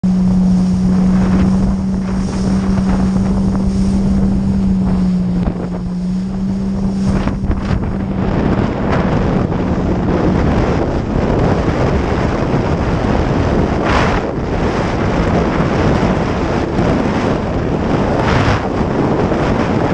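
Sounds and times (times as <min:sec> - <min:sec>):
jet ski engine droning: 0:00.0 - 0:19.9
rushing water: 0:00.0 - 0:19.9
wind buffeting microphone: 0:00.0 - 0:19.9.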